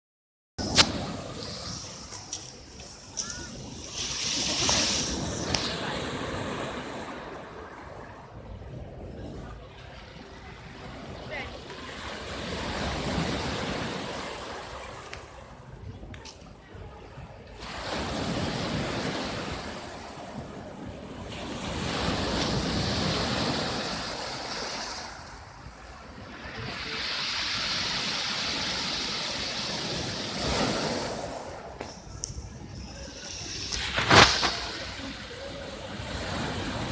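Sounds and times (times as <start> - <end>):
heavy waves breaking: 0.6 - 15.8, 17.3 - 36.9.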